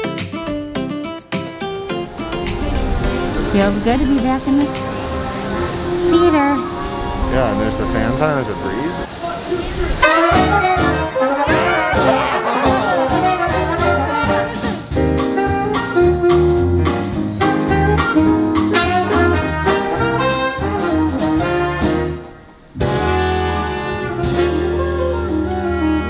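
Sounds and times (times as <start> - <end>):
drum kit: 0.0 - 6.6, 10.0 - 25.7
jazz band playing: 0.0 - 26.0
piano: 0.0 - 26.0
brass horns: 2.0 - 26.0.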